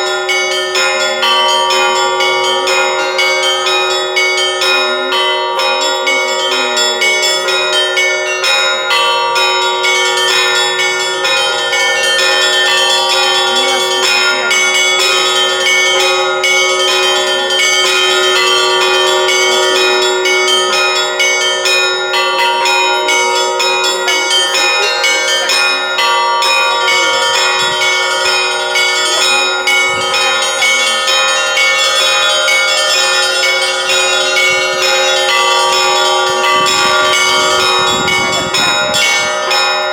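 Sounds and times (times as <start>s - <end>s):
church bells ringing: 0.0s - 39.9s
hum of large bells: 0.0s - 39.9s.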